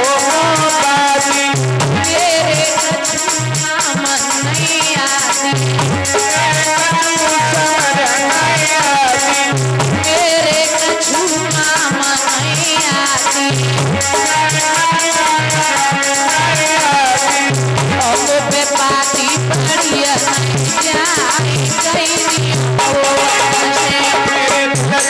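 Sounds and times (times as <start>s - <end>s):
devotional folk music: 0.0s - 25.0s
quick high percussion strokes: 0.0s - 25.0s
steady drum beat: 0.0s - 25.0s.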